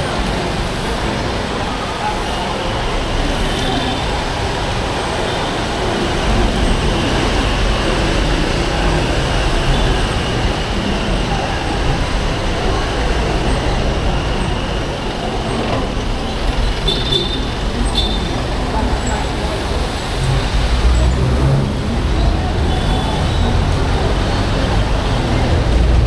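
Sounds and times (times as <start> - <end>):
bus engines: 0.0 - 26.0
dense street traffic: 0.0 - 26.0
motorcycle engines: 0.0 - 26.0
road noise: 0.0 - 26.0.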